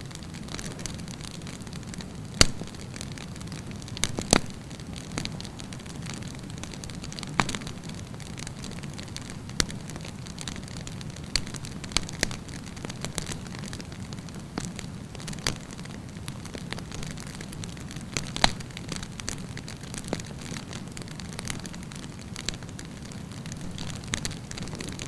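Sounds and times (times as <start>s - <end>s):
fire pops and crackles: 0.0s - 25.0s
rumble of fire flames: 0.0s - 25.0s.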